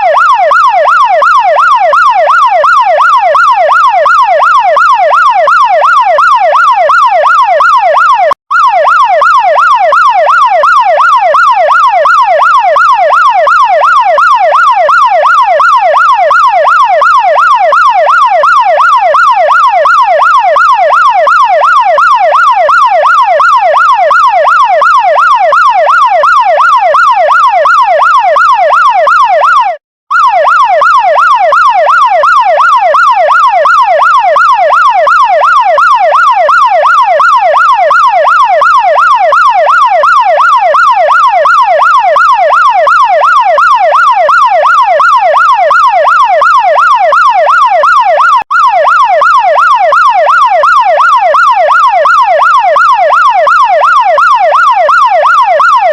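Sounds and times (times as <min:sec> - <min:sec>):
fire truck siren yelping: 0:00.0 - 0:55.9.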